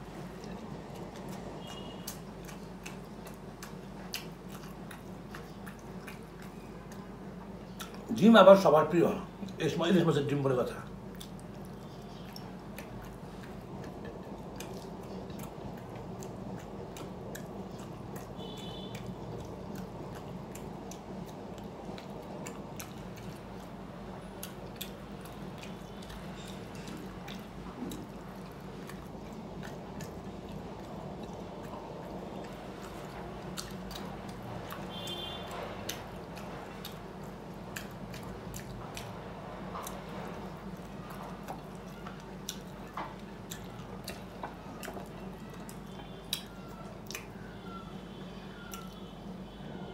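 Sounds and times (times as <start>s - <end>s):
person chewing and eating: 0.0s - 49.5s
steady low hum: 0.0s - 49.9s
wet mouth clicks and smacks: 0.3s - 8.1s, 10.8s - 47.4s.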